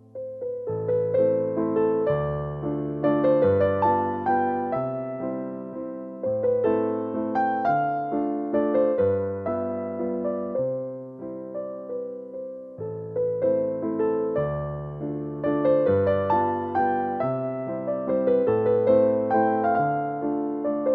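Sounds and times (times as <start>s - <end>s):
gentle electric piano music: 0.0s - 20.9s.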